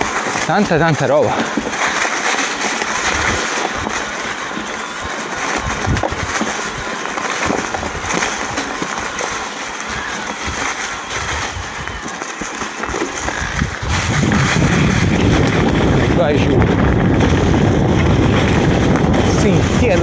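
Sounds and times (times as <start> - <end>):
bike rattling over rough ground: 0.0 - 20.0
bike tyres crunching over stones: 0.0 - 20.0.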